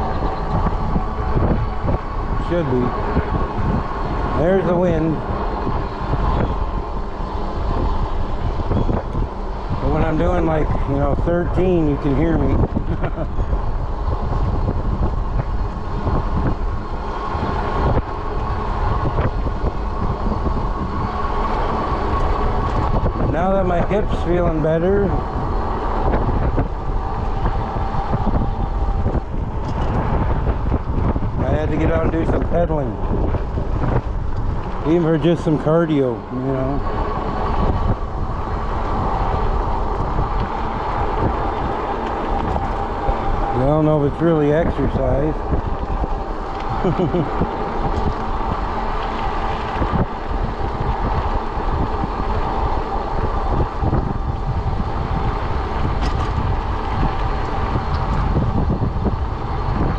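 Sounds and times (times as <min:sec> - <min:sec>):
electric bike rolling with whine: 0:00.0 - 0:59.9
tires rumbling on pavement: 0:00.0 - 0:59.9
wind buffeting microphone: 0:00.0 - 0:59.9.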